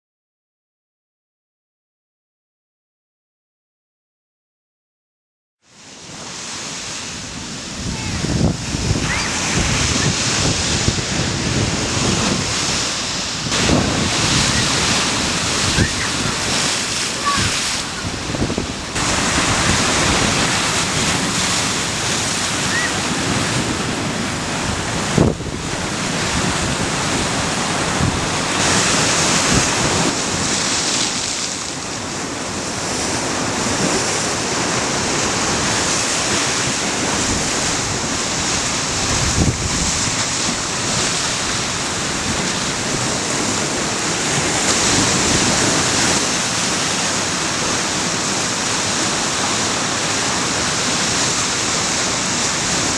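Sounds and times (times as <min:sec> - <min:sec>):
waves breaking on beach: 0:05.6 - 0:52.9
wind buffeting microphone: 0:06.7 - 0:31.2, 0:32.5 - 0:52.9.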